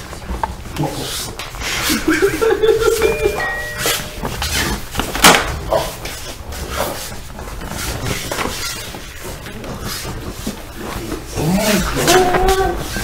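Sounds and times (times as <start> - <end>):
bed rumbling across floor: 0.0 - 13.0.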